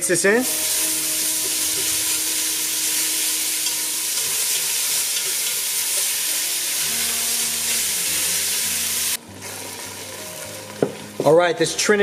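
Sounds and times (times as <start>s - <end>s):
vegetables sizzling in a pan: 0.0s - 11.6s.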